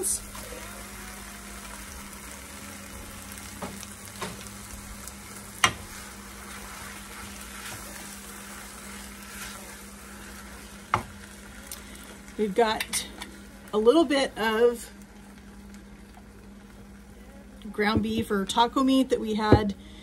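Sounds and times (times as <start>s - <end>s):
vegetables sizzling in a pan: 0.0s - 18.9s.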